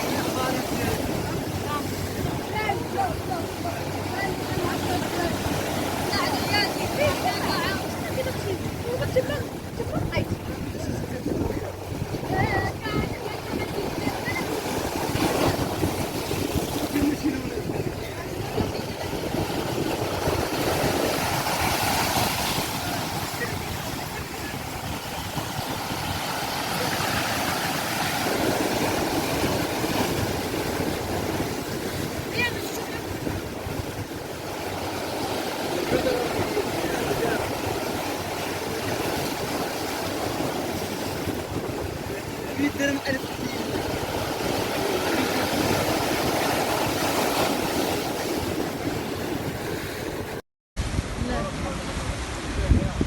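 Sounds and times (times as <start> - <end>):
sea waves washing: 0.0 - 53.0
wind buffeting microphone: 0.0 - 53.0.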